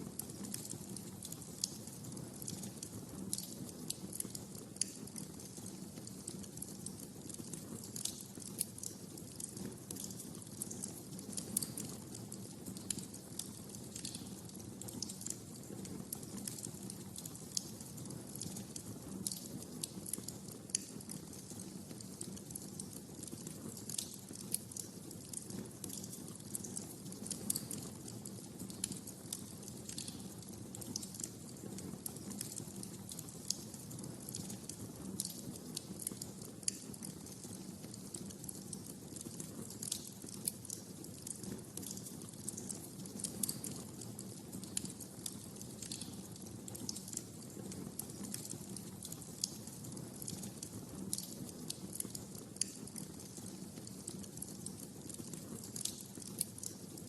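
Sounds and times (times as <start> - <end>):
wood fire crackling: 0.0 - 57.0
low rumble of flames: 0.1 - 56.9
sharp pops and snaps: 0.2 - 57.0.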